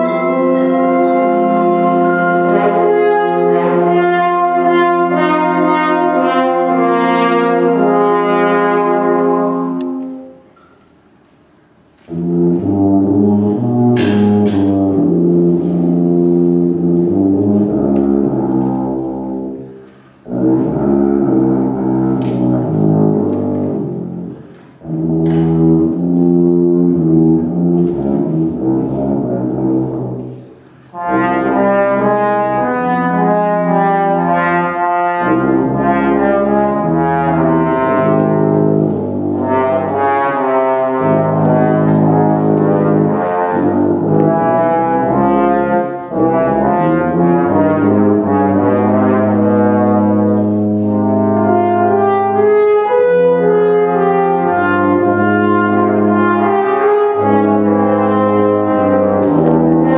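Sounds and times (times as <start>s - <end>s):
wind band playing brass chords: 0.0s - 10.6s, 12.0s - 59.9s.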